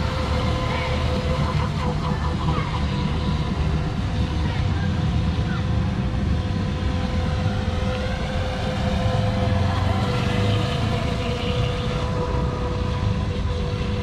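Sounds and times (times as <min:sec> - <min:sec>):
boat motor whine: 0:00.0 - 0:14.0
low rumble: 0:00.0 - 0:14.0.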